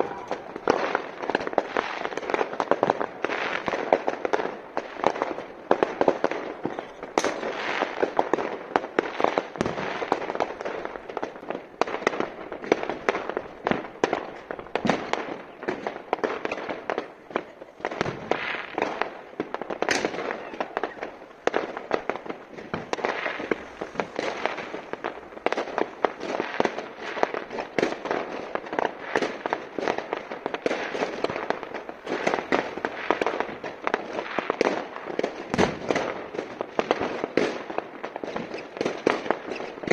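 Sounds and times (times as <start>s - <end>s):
fireworks crackling: 0.0s - 39.9s
sharp firework cracks: 0.0s - 39.9s.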